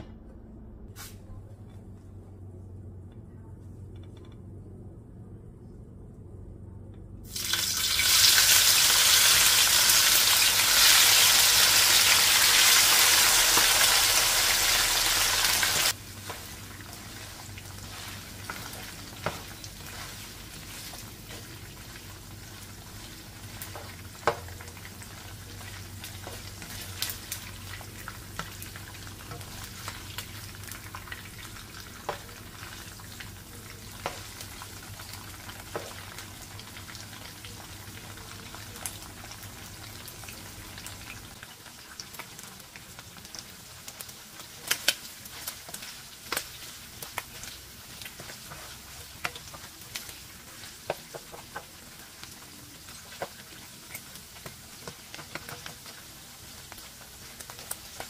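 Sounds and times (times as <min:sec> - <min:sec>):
food sizzling in hot oil: 0:07.3 - 0:58.0.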